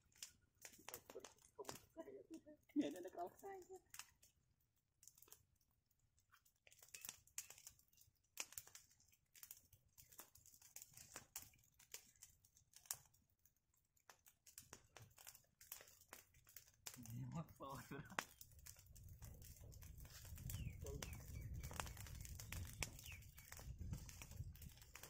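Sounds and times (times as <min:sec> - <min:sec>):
dry leaves and twigs crackling: 0:00.0 - 0:25.0.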